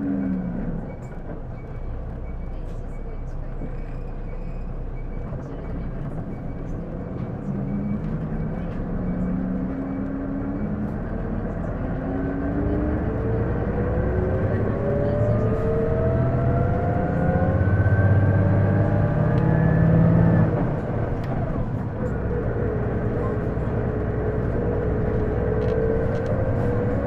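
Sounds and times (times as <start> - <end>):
bus engine accelerating: 0.0 - 27.0.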